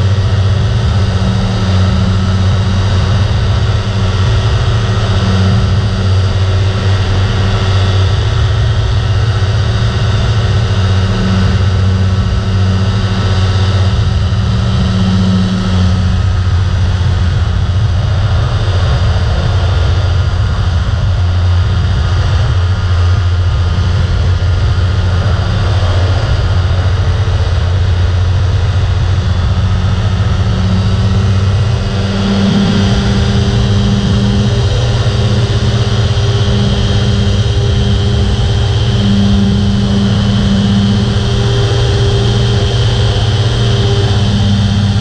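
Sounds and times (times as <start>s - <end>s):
rushing airflow: 0.0s - 45.0s
two-stroke engine cruising: 0.0s - 45.0s.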